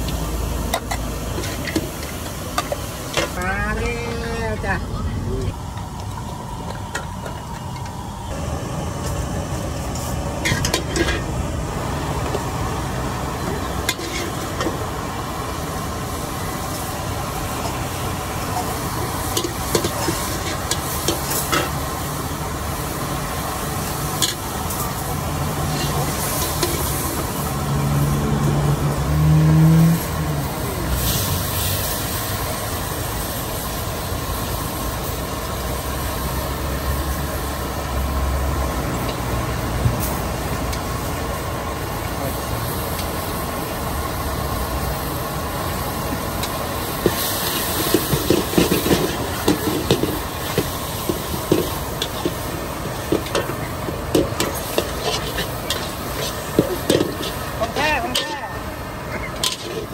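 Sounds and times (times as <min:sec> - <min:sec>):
food sizzling: 0:00.0 - 0:59.9.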